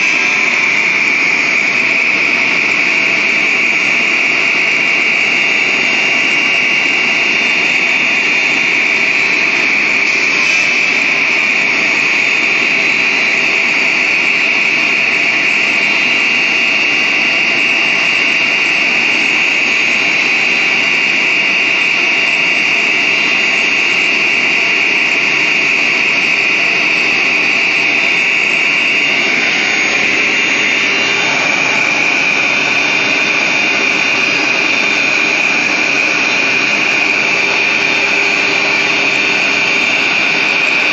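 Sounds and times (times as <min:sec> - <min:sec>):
machine noise: 0:00.0 - 0:40.9
router spindle high-pitched whine: 0:00.0 - 0:40.9.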